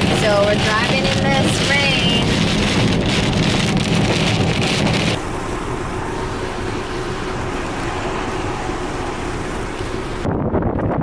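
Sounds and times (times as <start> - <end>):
rain on car: 0.0 - 10.3
tyres on wet road: 0.0 - 10.3.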